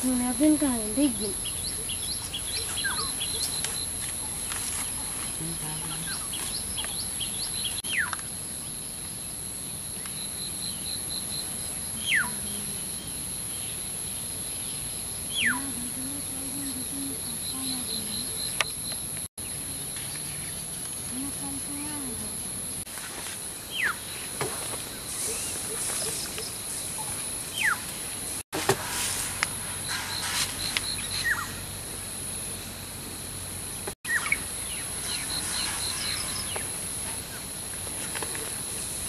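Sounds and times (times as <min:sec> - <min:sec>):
crickets chirping: 0:00.0 - 0:39.0
high insect drone: 0:00.0 - 0:39.0.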